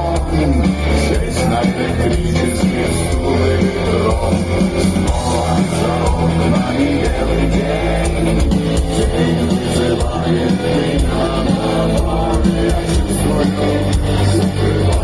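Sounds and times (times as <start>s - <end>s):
electric guitar: 0.0s - 15.0s
heavy bass line: 0.0s - 15.0s
live rock band: 0.0s - 15.0s.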